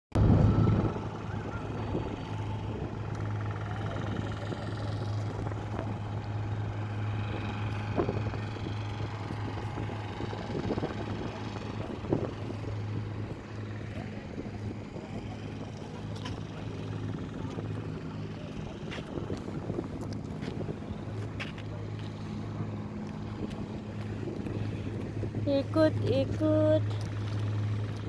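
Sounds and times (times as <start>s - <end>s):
low mechanical hum: 0.2s - 28.0s.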